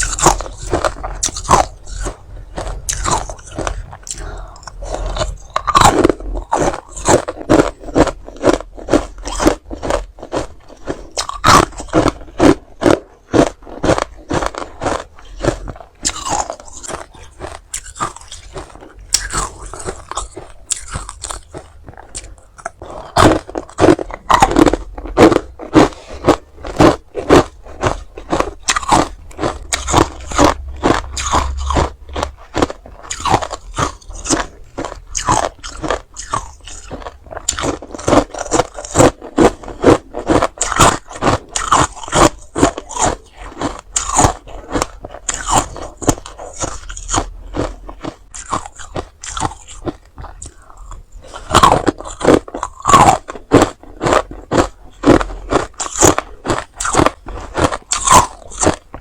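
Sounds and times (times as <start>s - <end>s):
ice crunching in mouth: 0.0s - 59.0s.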